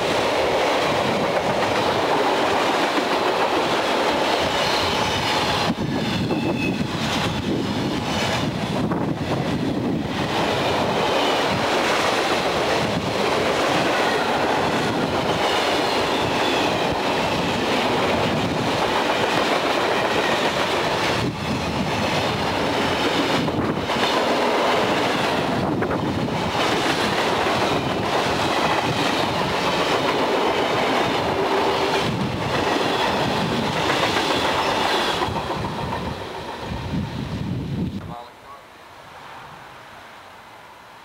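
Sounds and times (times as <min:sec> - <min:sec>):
steel wheels clattering on rail: 0:00.0 - 0:36.8.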